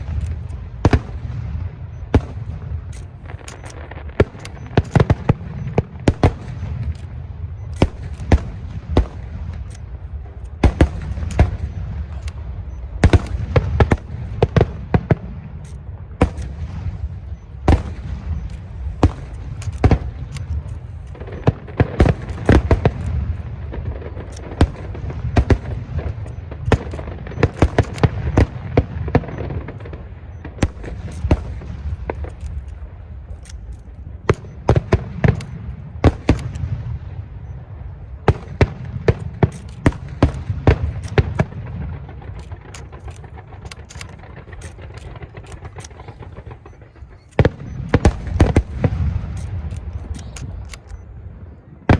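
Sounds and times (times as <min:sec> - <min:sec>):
fireworks bangs and booms: 0:00.0 - 0:51.9.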